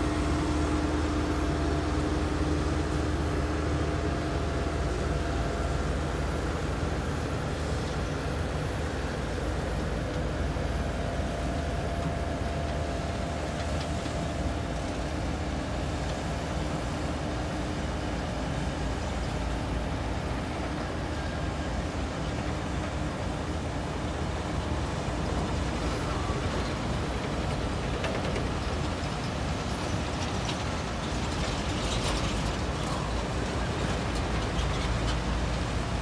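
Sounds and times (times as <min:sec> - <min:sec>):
diesel machinery deep drone: 0:00.0 - 0:36.0.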